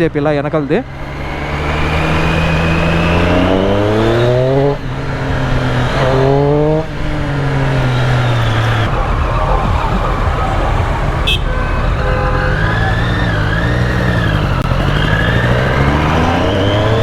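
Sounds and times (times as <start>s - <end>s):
vehicle engine accelerating: 0.0s - 17.0s.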